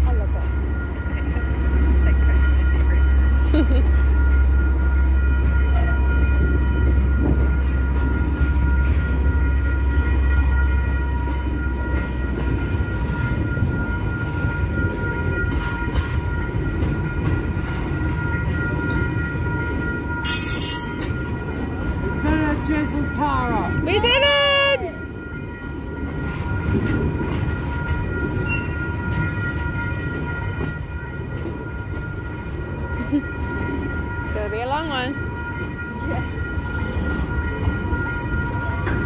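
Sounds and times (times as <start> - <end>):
high-pitched ringing tones: 0.0 - 39.0
train wheels rumbling on rails: 0.0 - 39.0.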